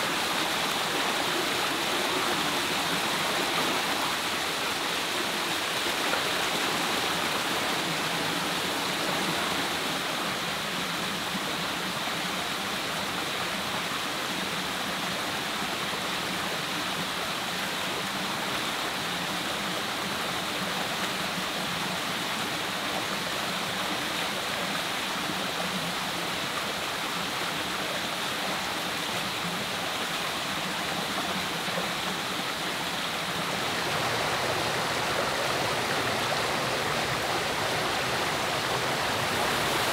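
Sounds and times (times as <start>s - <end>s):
stream rushing over cascades: 0.0s - 39.9s.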